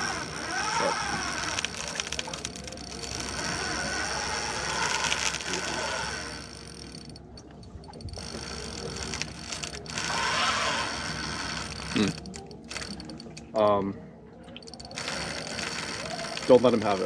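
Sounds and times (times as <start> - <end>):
fishing reel clicking and whirring: 0.0 - 13.6, 14.6 - 17.0.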